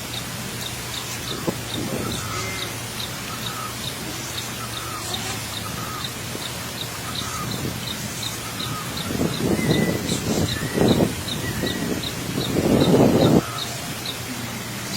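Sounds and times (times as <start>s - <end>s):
bird chirping: 0.0s - 14.9s
scattered bird notes: 0.0s - 14.9s
steady low hum: 0.0s - 14.9s.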